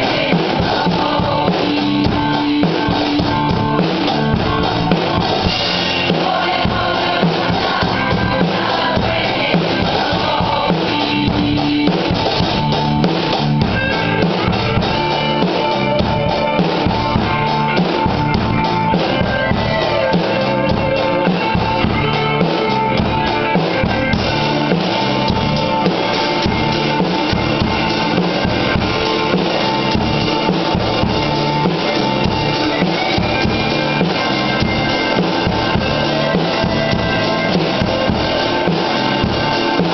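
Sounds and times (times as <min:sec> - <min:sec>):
drum kit rock beat: 0:00.0 - 0:39.9
recorded rock song: 0:00.0 - 0:39.9.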